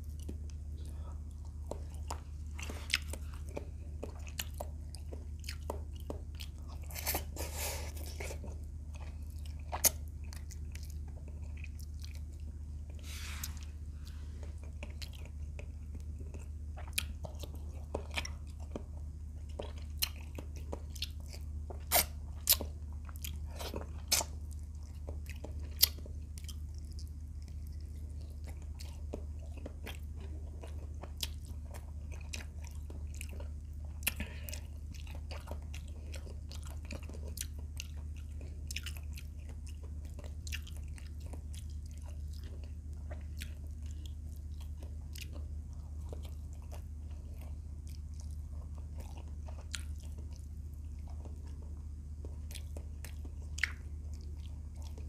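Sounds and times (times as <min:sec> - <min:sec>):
man chewing: 0:00.0 - 0:55.0
steady low hum: 0:00.0 - 0:55.0.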